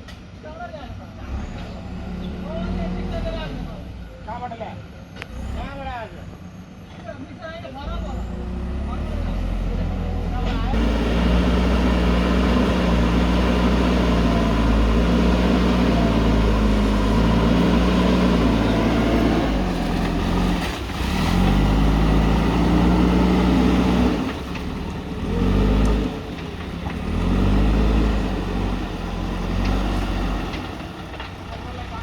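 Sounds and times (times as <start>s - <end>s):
diesel engine revving: 1.2s - 4.0s, 5.2s - 6.0s, 7.8s - 32.0s.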